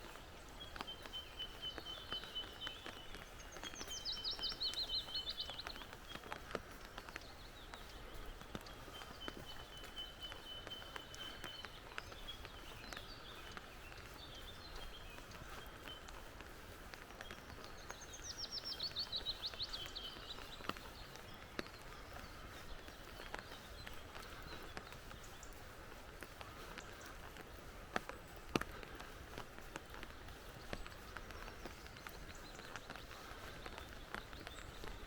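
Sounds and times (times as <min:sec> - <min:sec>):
birds singing: 0:00.0 - 0:35.0
faint ticks: 0:00.1 - 0:35.0.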